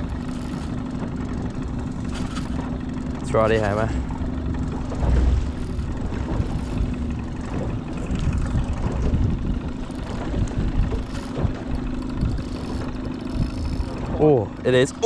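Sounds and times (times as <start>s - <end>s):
low rumbling: 0.0s - 15.0s
outboard motor idling: 0.0s - 15.0s.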